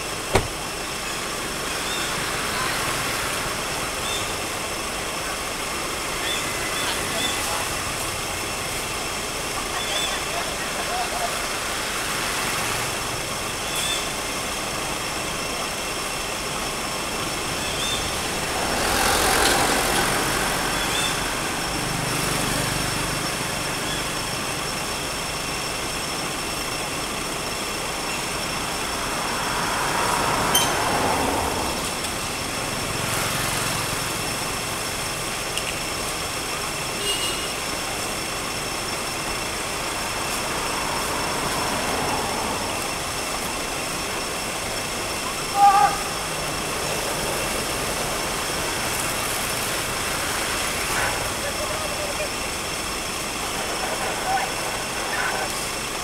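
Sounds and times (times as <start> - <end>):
road traffic rumble: 0.0 - 56.0
vehicles passing: 0.0 - 56.0.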